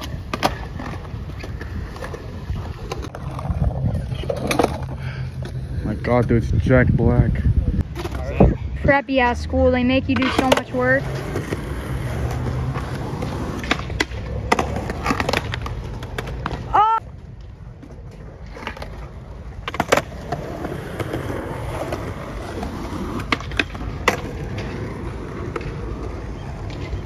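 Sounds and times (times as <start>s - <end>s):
skateboard clacking on ground: 0.0s - 5.6s, 10.1s - 27.0s
skateboard wheels rolling on concrete: 0.0s - 27.0s.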